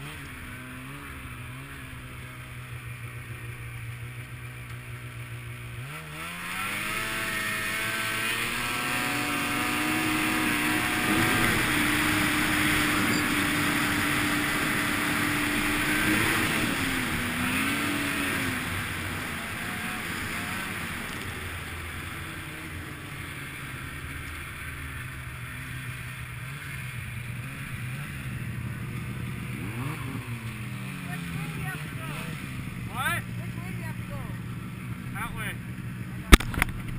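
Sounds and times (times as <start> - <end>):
snowmobile engine revving: 0.0 - 36.9.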